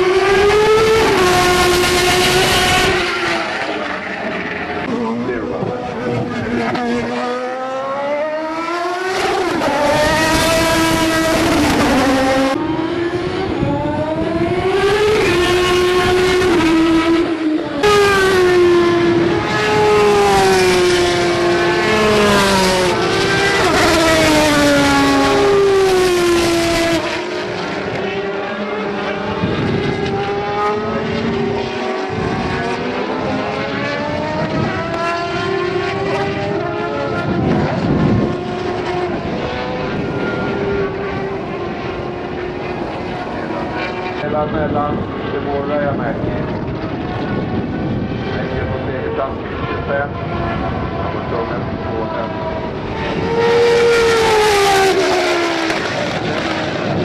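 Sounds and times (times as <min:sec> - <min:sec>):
racing car engines at high revs: 0:00.0 - 0:57.0.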